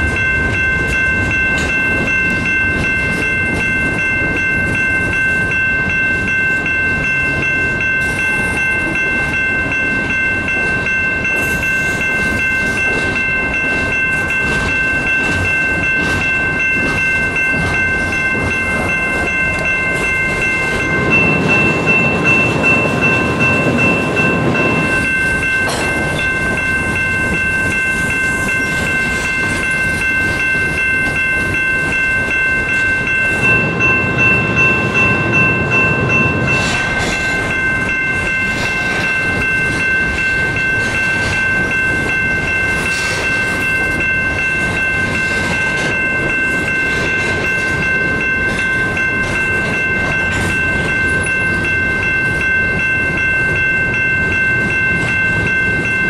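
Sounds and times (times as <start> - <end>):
high-pitched ringing: 0.0 - 56.0
train wheels rumbling and clattering: 0.0 - 56.0.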